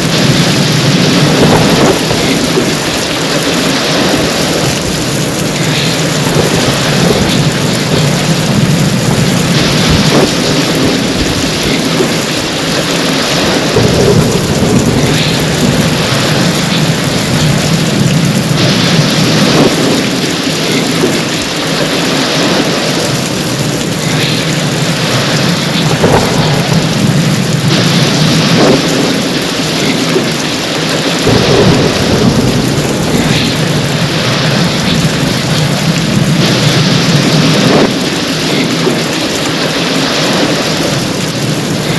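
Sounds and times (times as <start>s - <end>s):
heavy rain falling: 0.0s - 41.9s
thunder rumbling: 0.0s - 41.9s.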